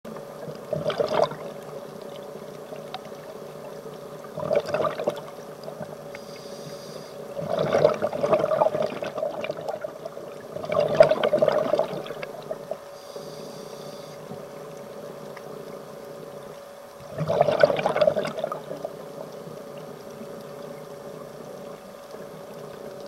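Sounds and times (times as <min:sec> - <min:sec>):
steady hum: 0:00.1 - 0:23.0
underwater bubbles gurgling: 0:00.1 - 0:23.0.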